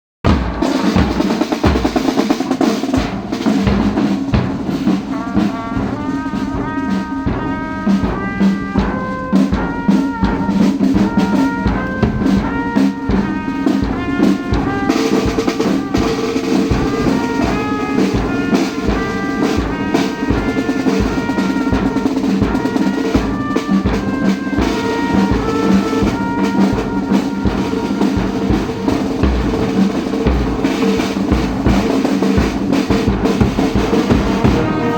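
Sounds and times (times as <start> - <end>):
brass band playing: 0.2 - 34.9
constant drum beat: 0.2 - 34.9.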